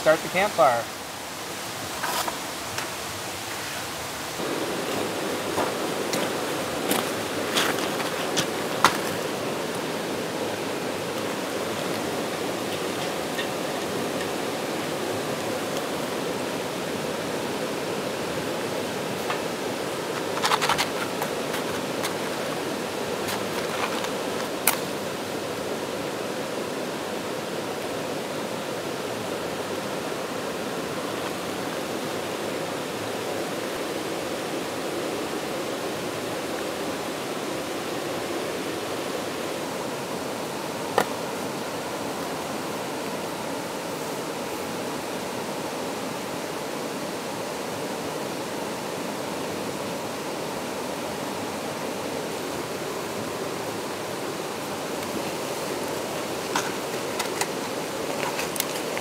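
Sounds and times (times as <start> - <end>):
rocky stream running: 0.0 - 59.0.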